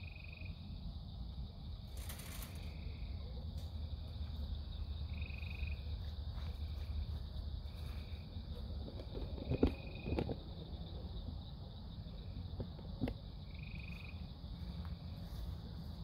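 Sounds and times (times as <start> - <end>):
frogs trilling: 0.0 - 0.9, 2.6 - 14.6
insect drone: 0.0 - 16.0.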